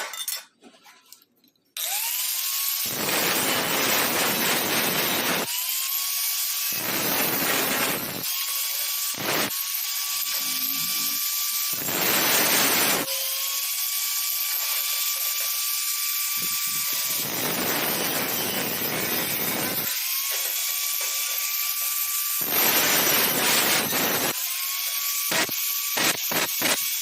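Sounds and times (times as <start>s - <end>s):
power tool grinding metal: 1.8s - 27.0s.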